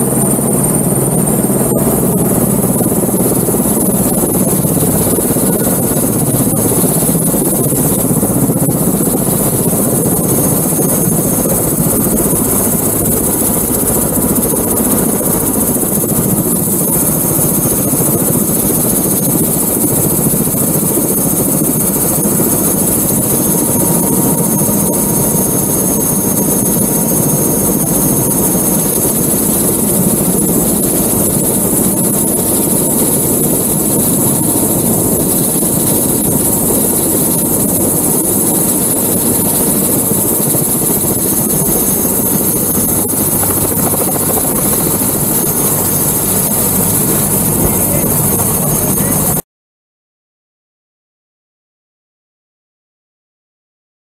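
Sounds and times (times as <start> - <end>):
helicopter turbine and rotor: 0.0 - 49.4
high turbine whine: 0.0 - 49.4.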